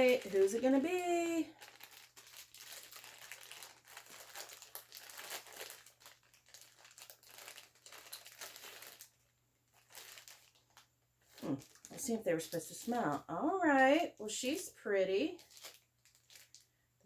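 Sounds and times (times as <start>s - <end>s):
plastic packaging crinkling: 0.0s - 16.8s.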